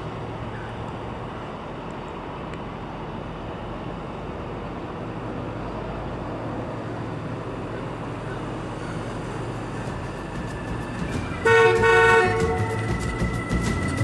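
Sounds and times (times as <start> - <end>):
car engine running slowly: 0.0 - 14.0.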